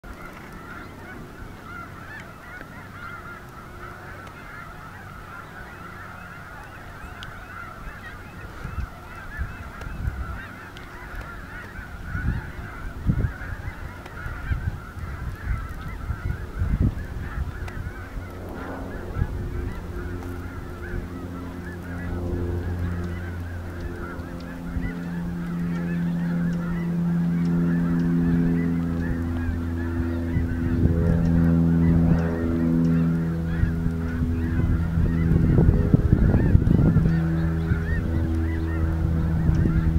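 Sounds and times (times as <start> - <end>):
geese honking: 0.0 - 39.9
low hum with overtones: 0.0 - 39.9.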